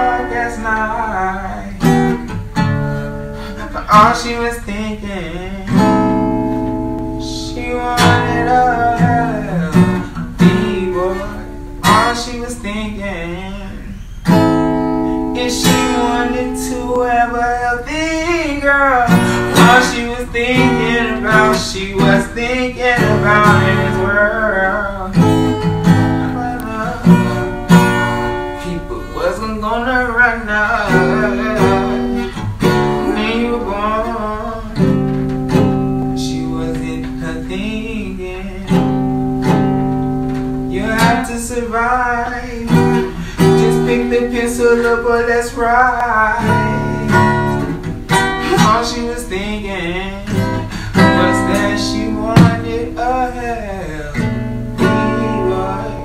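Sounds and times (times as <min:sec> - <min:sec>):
person singing: 0:00.0 - 0:02.4, 0:07.2 - 0:14.0, 0:15.1 - 0:27.5, 0:28.6 - 0:39.1, 0:40.7 - 0:56.0
strummed acoustic guitar: 0:00.0 - 0:56.0.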